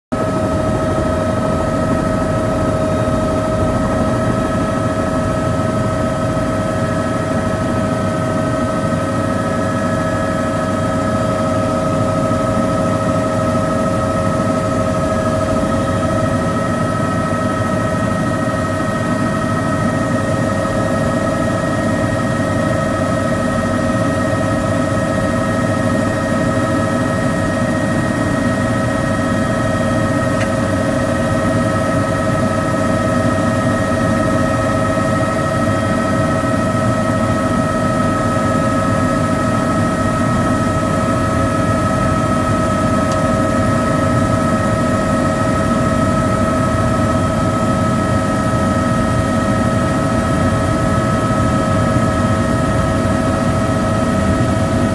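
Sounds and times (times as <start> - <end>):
helicopter engine and rotors: 0.1 - 54.9.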